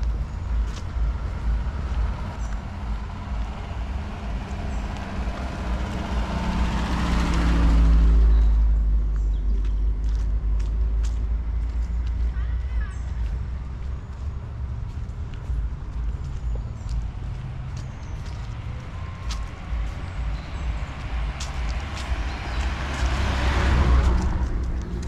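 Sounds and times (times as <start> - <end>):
motor vehicle passing by: 0.0 - 25.0.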